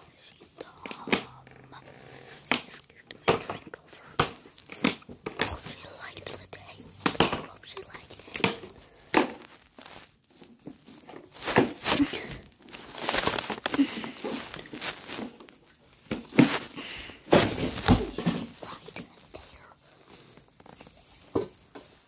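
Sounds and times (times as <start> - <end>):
close rustling and crinkling: 0.0 - 22.0.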